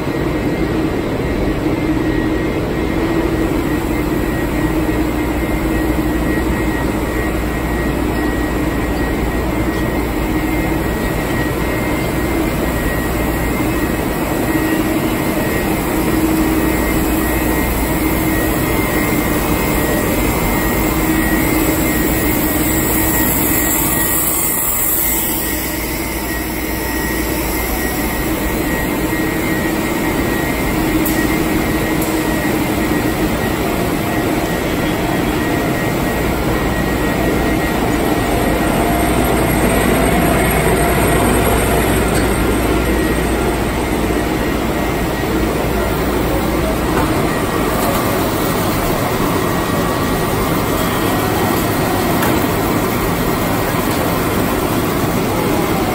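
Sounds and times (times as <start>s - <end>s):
machinery motors humming: 0.0s - 55.9s.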